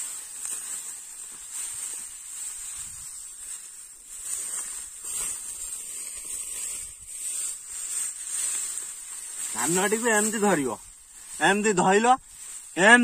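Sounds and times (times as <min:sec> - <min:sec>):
dry straw rustling and crackling: 0:00.0 - 0:13.0
high-pitched hiss: 0:00.0 - 0:13.0.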